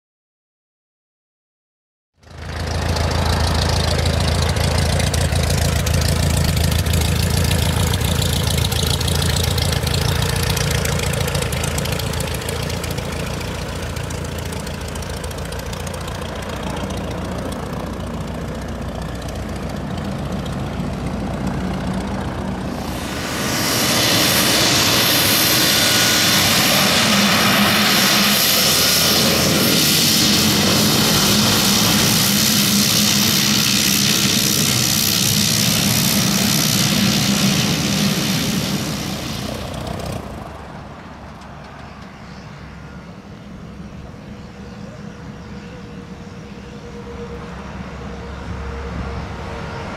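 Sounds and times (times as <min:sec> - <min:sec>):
high turbine whine: 0:02.2 - 0:49.9
turboprop propeller drone: 0:02.2 - 0:49.9.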